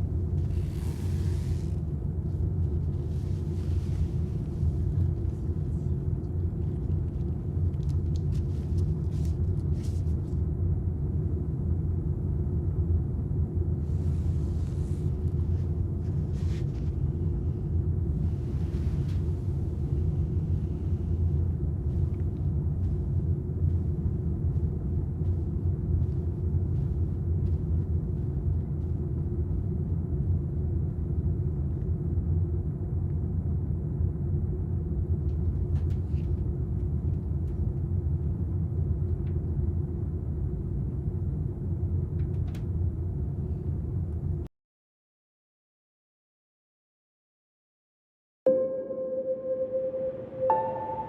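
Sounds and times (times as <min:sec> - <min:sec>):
airliner cabin drone: 0:00.0 - 0:44.5, 0:48.5 - 0:51.0.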